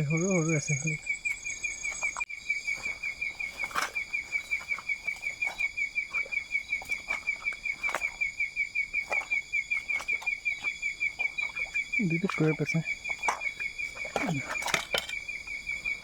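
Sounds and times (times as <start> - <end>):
high insect drone: 0.0 - 16.0
pulsed insect chirping: 0.0 - 16.0.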